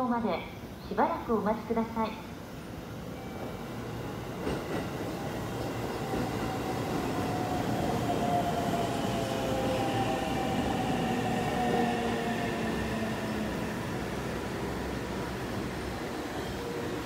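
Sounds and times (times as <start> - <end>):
electric train arriving: 1.6 - 17.0.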